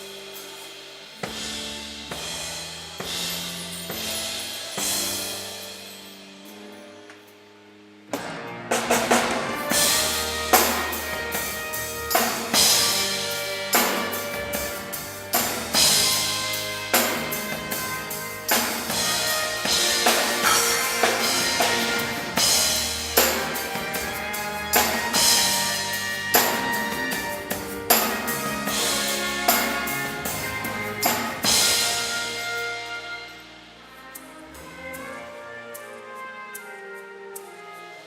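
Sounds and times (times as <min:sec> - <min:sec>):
heavy drum accents: 0:00.0 - 0:06.5, 0:08.1 - 0:34.2
live band playing: 0:00.0 - 0:38.0.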